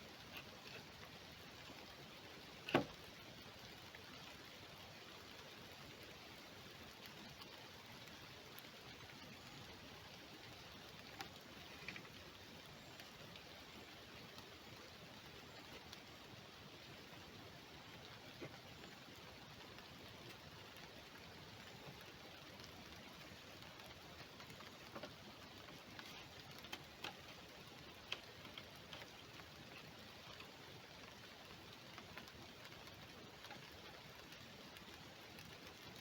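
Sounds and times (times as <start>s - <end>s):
faint steady hiss: 0.0s - 36.0s
light ticks and clicks: 5.0s - 36.0s.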